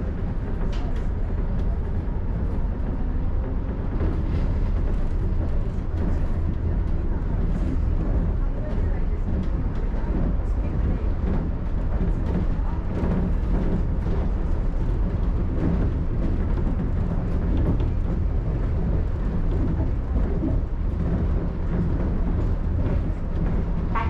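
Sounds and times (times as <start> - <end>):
monorail car rumbling on track: 0.0 - 24.0.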